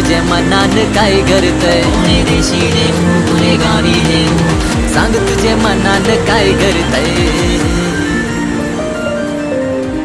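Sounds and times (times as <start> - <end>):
instrumental music with held notes: 0.0 - 10.0.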